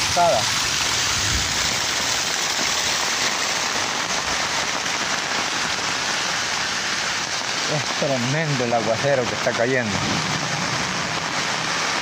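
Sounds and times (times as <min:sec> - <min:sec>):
heavy rain on ground: 0:00.0 - 0:12.0
rainwater pouring down wall: 0:00.0 - 0:12.0.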